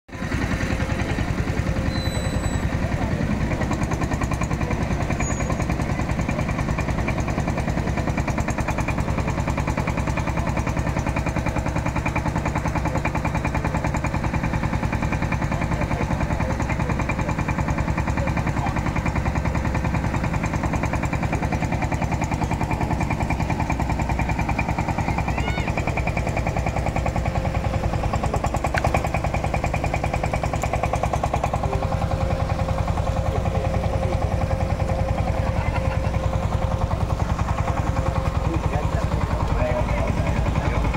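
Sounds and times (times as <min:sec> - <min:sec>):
diesel boat engine chugging: 0:00.1 - 0:40.9.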